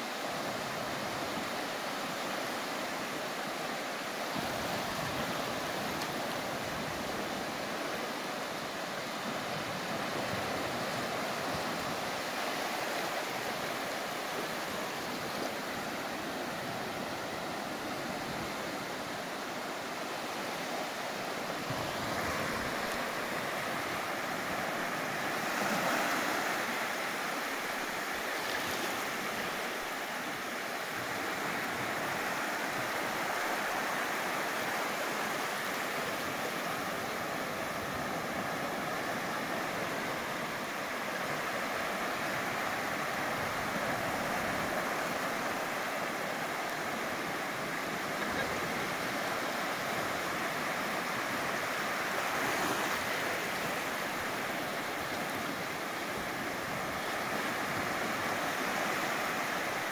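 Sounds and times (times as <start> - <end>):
waves washing onto beach: 0.0 - 59.9.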